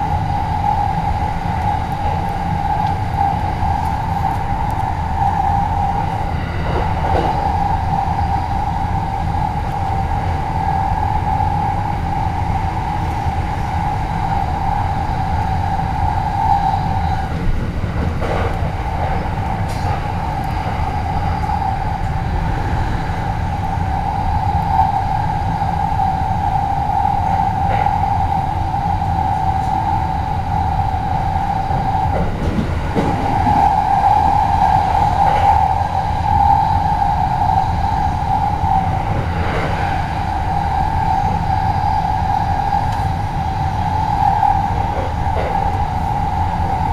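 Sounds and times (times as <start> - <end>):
train car low rumble: 0.0 - 46.9.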